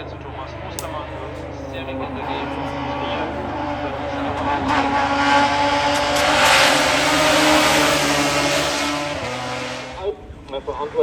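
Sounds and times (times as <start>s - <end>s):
race car accelerating past: 0.6s - 11.0s.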